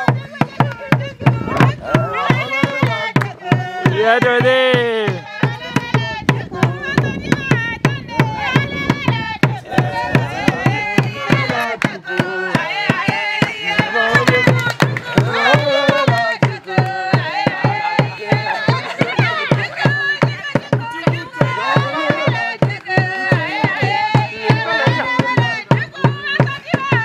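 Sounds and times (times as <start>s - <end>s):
hand drum beating: 0.0s - 27.0s
voices singing: 0.0s - 27.0s.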